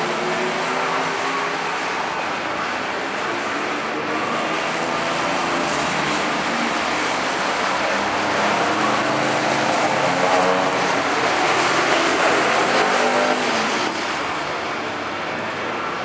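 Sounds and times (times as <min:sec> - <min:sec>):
sports car engines passing: 0:00.0 - 0:16.0.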